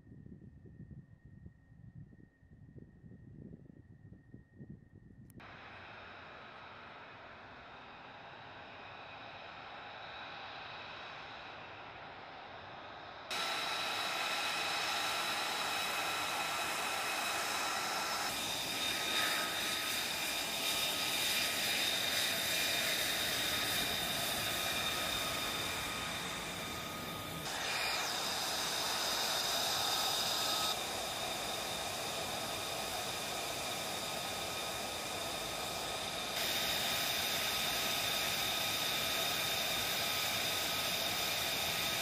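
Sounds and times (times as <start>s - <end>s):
jet engine whine and hiss: 5.3s - 42.0s.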